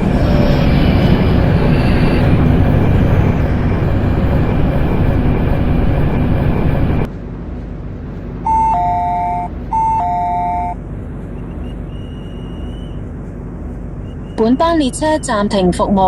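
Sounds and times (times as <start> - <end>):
train running rumble and hiss: 0.0 - 16.0.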